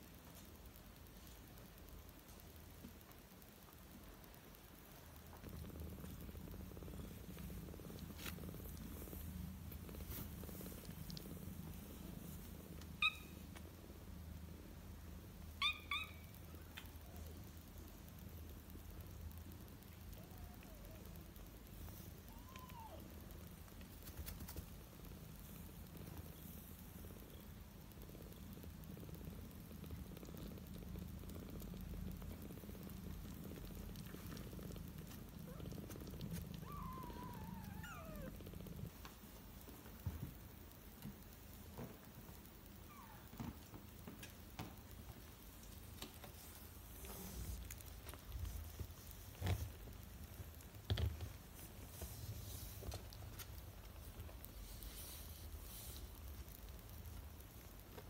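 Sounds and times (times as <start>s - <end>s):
cat purring: 0.0s - 58.0s.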